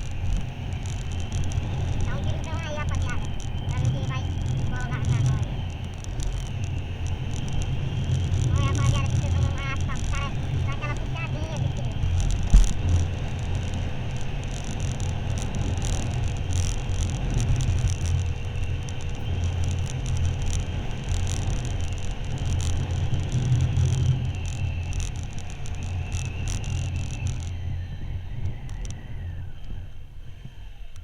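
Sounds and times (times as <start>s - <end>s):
motorcycle engine and road rumble: 0.0s - 30.1s.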